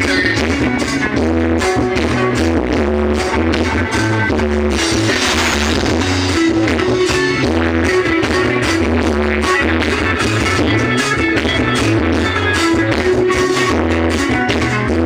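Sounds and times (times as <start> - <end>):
pop-rock song on sound system: 0.0 - 15.0.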